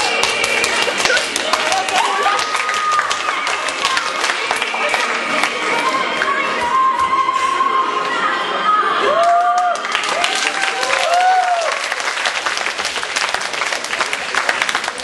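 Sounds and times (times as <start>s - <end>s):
audience applauding: 0.0s - 6.3s, 9.1s - 15.0s.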